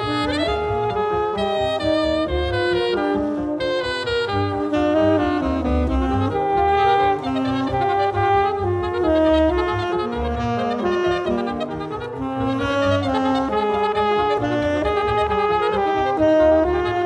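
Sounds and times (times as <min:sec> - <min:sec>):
double bass: 0:00.0 - 0:17.0
piano: 0:00.0 - 0:17.0
saxophones holding long notes: 0:00.0 - 0:17.0.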